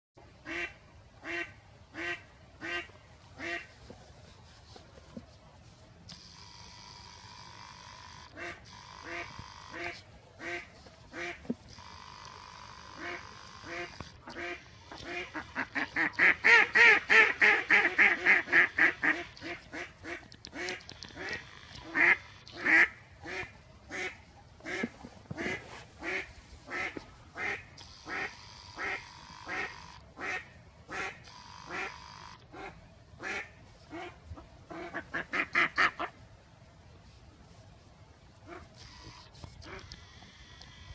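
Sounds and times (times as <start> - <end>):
duck quacking: 0.4 - 3.8, 8.0 - 36.2, 38.4 - 40.9.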